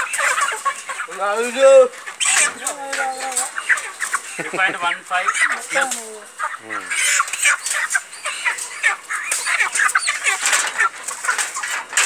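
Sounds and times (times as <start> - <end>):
chickens clucking and squawking: 0.0 - 12.0.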